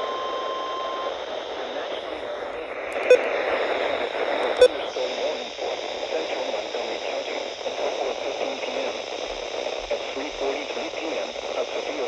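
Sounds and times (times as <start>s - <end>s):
faint voice reading on radio: 1.7s - 12.0s.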